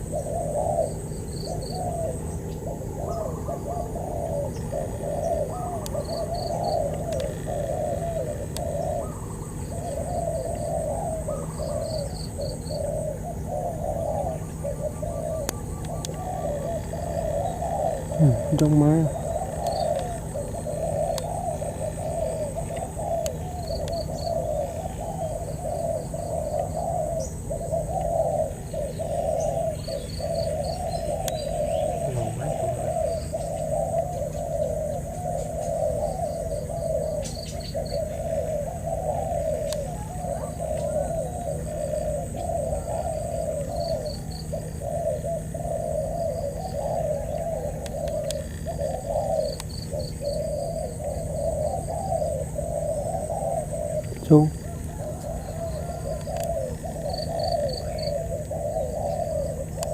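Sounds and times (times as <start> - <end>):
doves cooing: 0.0 - 59.9.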